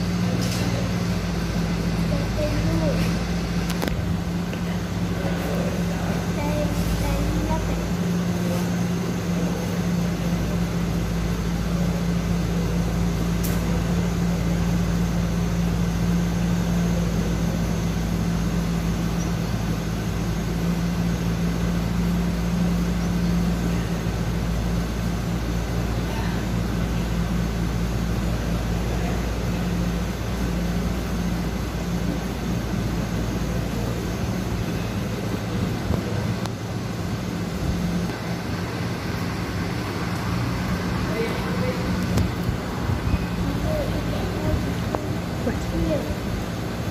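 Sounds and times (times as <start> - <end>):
steady mechanical hum: 0.0 - 46.9.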